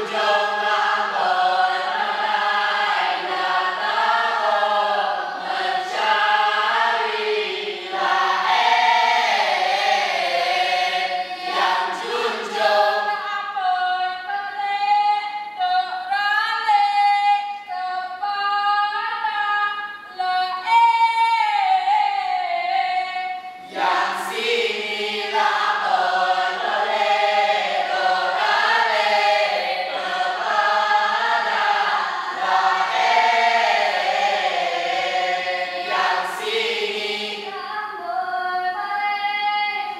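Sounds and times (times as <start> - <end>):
group singing unaccompanied: 0.0 - 15.0, 19.2 - 39.9.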